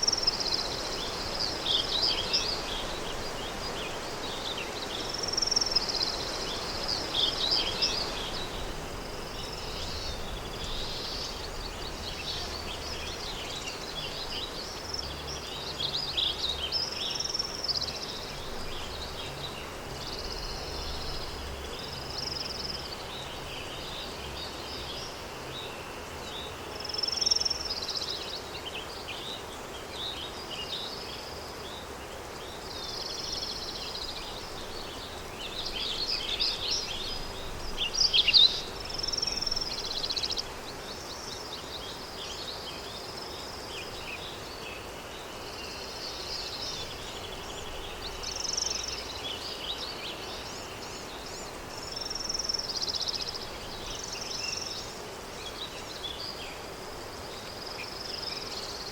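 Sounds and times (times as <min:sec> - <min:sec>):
small birds chirping and trilling: 0:00.0 - 0:58.9
wind hiss: 0:00.0 - 0:58.9.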